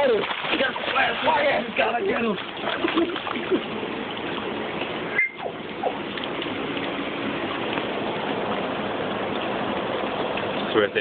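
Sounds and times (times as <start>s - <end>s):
pool water sloshing: 0.0s - 11.0s.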